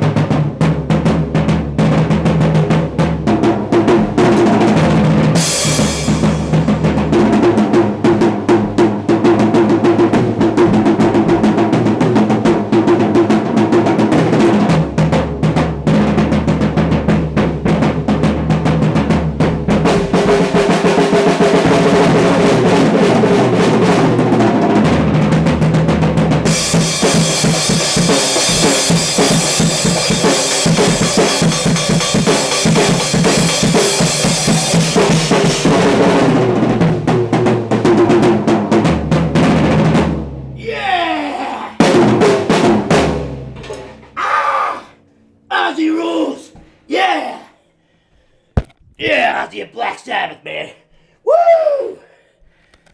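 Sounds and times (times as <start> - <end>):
drum rolls on snare and toms: 0.0 - 44.2.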